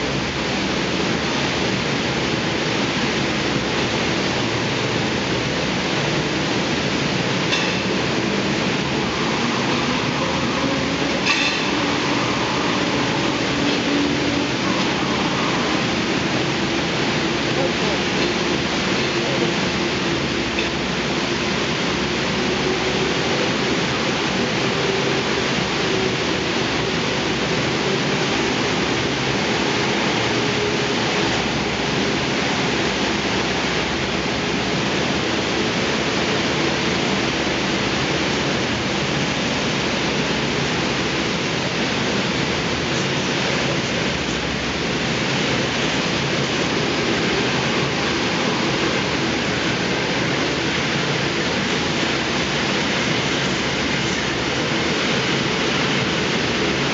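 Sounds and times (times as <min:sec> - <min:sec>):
thermal lance hissing: 0:00.0 - 0:56.9.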